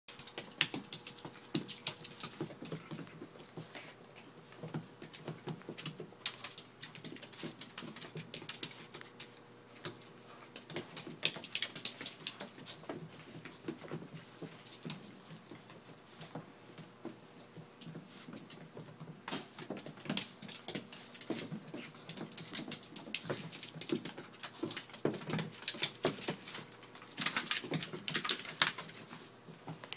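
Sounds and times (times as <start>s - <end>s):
dog claws clicking on floor: 0.1s - 29.9s.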